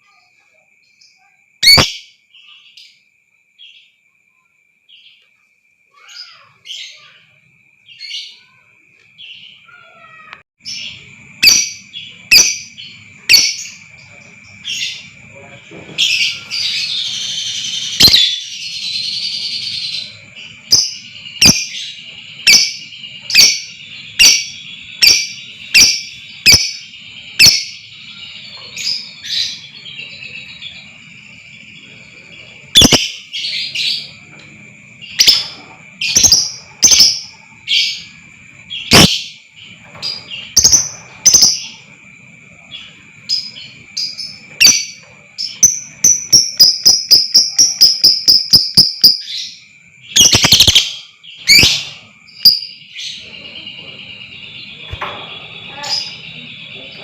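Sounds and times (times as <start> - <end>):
bird chattering and chirping: 9.2 - 34.3, 35.0 - 42.0, 42.7 - 57.0.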